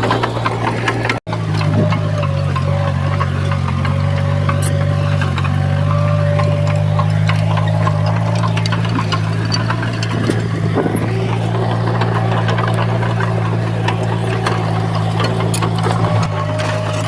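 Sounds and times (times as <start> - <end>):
diesel engine running: 0.0 - 17.0
metallic clicks and clanks: 0.0 - 17.0.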